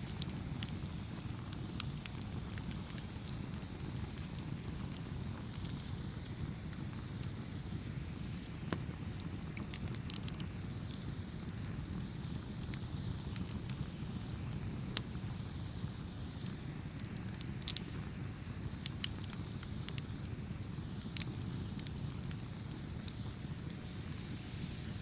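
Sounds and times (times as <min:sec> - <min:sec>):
fire crackles and pops: 0:00.0 - 0:25.0
low rumble of flames: 0:00.0 - 0:25.0.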